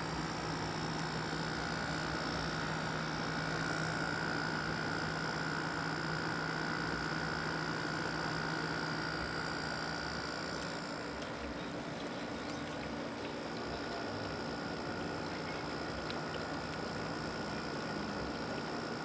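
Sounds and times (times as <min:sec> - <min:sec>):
mechanical hum with whine: 0:00.0 - 0:19.0.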